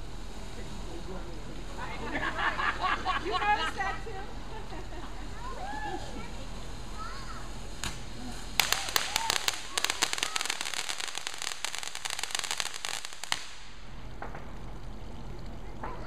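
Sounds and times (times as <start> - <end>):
firework crackling pops: 0.0 - 1.9, 4.2 - 16.0.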